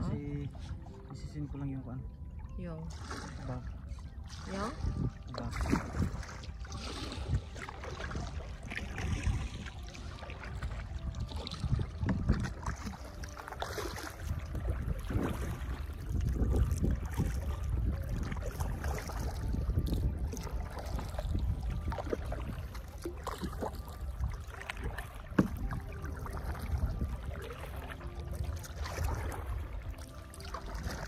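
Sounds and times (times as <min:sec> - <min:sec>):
paddle splashing water: 0:00.0 - 0:31.0.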